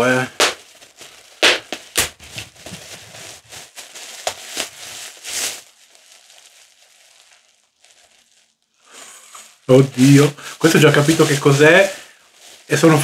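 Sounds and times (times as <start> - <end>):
paper wrapping rustling: 0.0 - 13.0.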